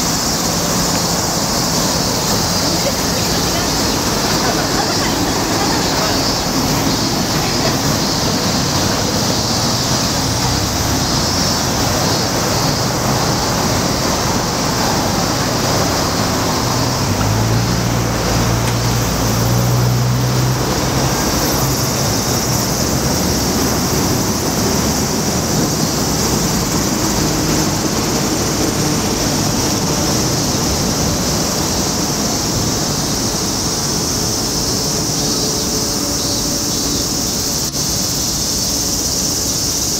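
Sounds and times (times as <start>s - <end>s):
city road traffic roar: 0.0s - 39.9s.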